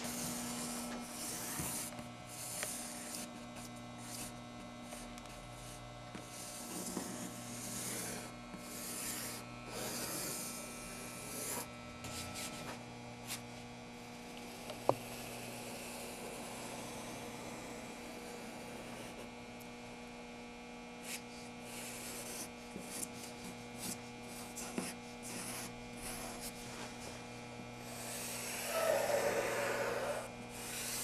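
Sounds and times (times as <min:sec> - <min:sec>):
pencil scratching on paper: 0:00.0 - 0:12.7, 0:14.9 - 0:19.3, 0:21.0 - 0:27.2, 0:27.8 - 0:31.0
electrical hum: 0:00.0 - 0:31.0.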